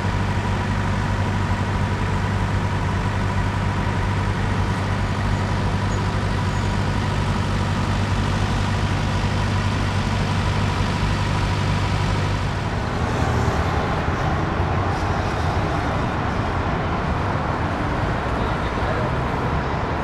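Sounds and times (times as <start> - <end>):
heavy diesel engine humming: 0.0 - 20.0
road traffic: 0.0 - 20.0.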